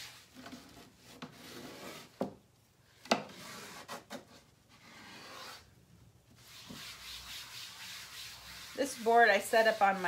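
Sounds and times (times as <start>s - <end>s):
scraping chalk off a board: 0.0s - 2.3s, 3.1s - 5.7s, 6.4s - 10.0s.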